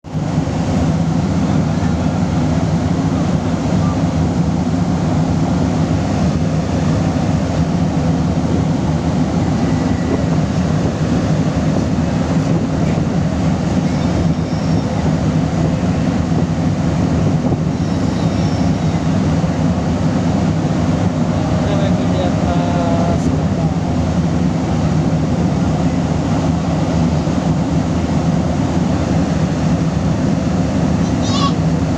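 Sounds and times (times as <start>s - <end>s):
ship engines droning: 0.0s - 31.9s.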